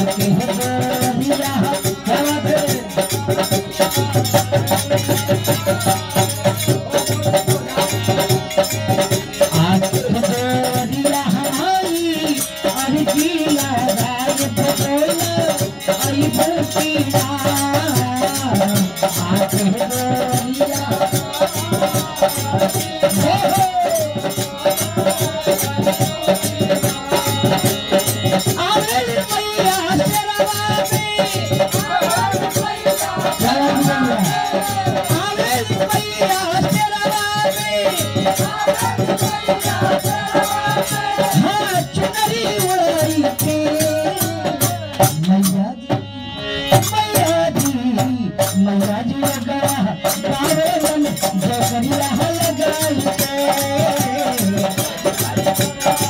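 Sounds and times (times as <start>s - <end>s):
hand percussion: 0.0s - 56.0s
voices singing devotional song: 0.0s - 56.0s.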